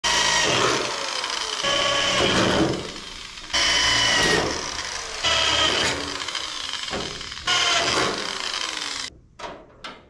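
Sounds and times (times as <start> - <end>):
drill grinding sheet metal: 0.0 - 9.1
electric drill motor whine: 0.0 - 9.1.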